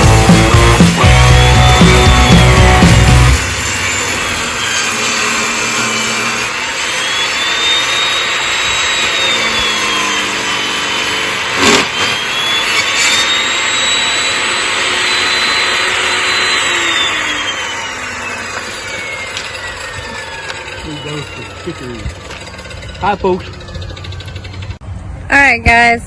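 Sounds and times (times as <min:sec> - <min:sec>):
sawmill engine and blade whine: 0:00.0 - 0:25.3.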